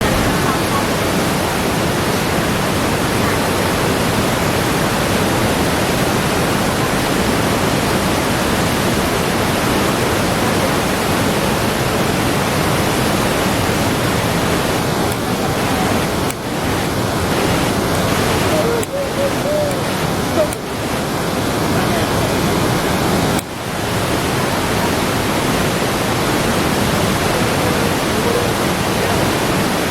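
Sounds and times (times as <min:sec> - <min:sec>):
waterfall rushing roar: 0:00.0 - 0:29.9.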